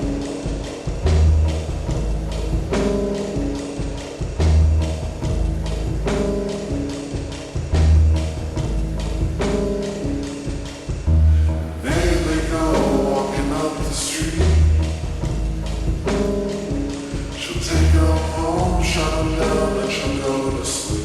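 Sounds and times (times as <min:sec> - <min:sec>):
deep bass notes: 0:00.0 - 0:21.0
slowed reverb-heavy indie pop song: 0:00.0 - 0:21.0.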